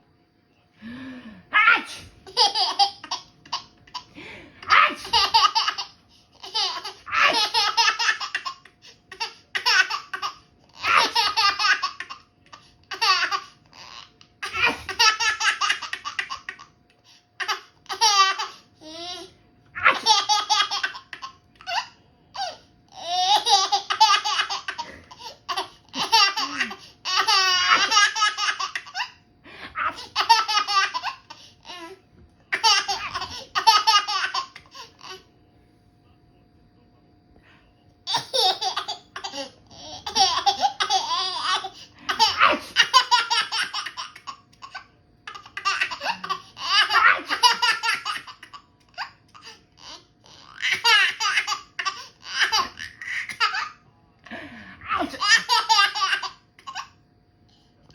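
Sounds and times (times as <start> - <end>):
baby laughing: 1.6 - 16.7, 17.4 - 29.2, 29.8 - 35.2, 38.1 - 53.8, 54.9 - 56.9.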